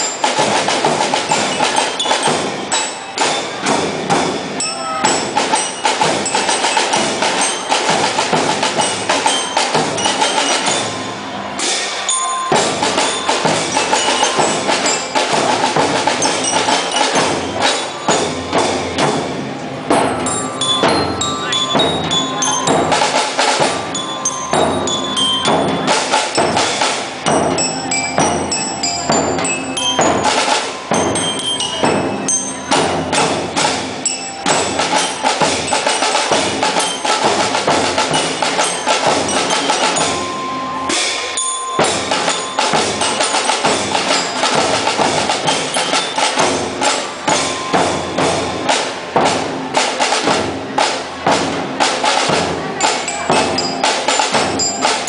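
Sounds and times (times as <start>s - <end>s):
mallet bells melody: 0.0s - 55.0s
marching band drum cadence: 0.0s - 55.0s.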